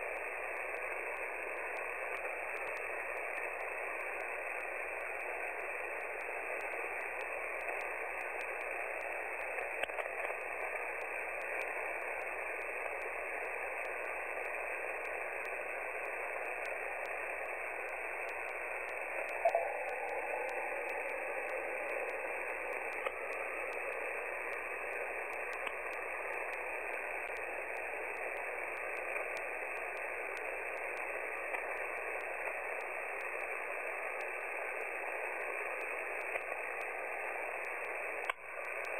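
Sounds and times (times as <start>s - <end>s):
radio static hiss: 0.0s - 38.9s
faint ticks: 0.1s - 38.9s.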